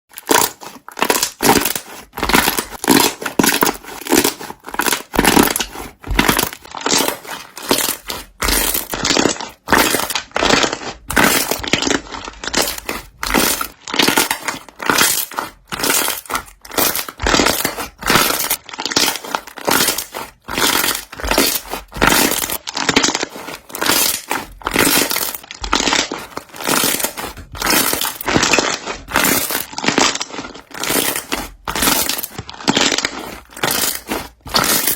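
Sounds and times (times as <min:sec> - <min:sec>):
slime squelching and popping: 0:00.1 - 0:34.9.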